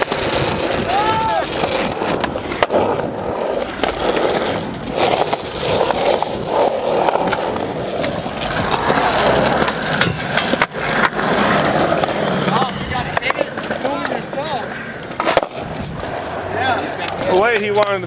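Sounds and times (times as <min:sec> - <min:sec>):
skateboard clacking on ground: 0:00.0 - 0:18.0
skateboard wheels rolling on concrete: 0:00.0 - 0:18.0.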